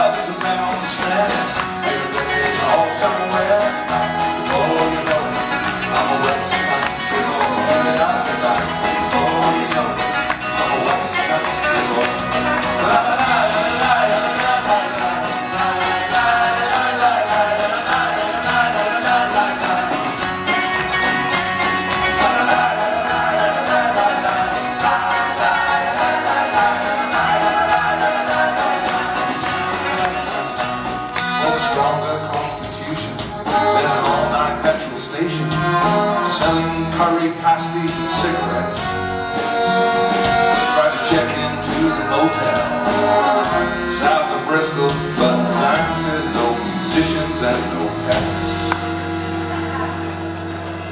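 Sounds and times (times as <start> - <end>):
folk-country band playing: 0.0 - 50.9
lead vocal singing: 0.0 - 50.9.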